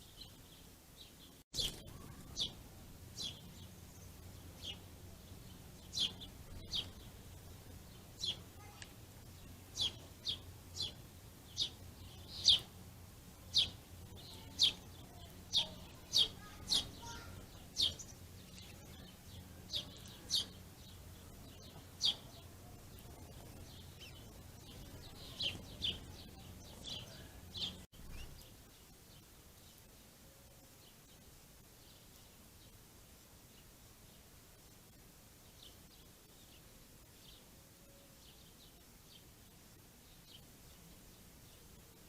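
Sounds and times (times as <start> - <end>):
faint low hum: 0.0 - 42.0
songbirds chirping: 0.0 - 42.0.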